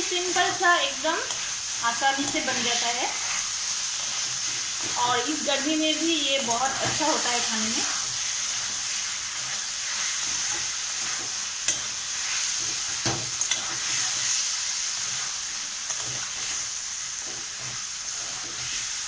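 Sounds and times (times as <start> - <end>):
vegetables sizzling in pan: 0.0 - 19.0
spatula scraping pan: 0.4 - 19.0.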